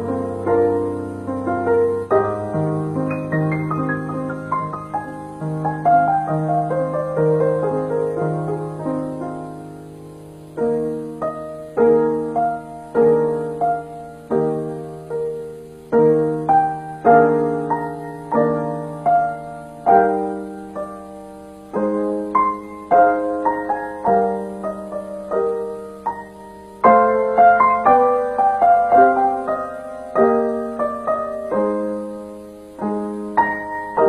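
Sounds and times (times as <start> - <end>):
piano broken chords: 0.0 - 34.0.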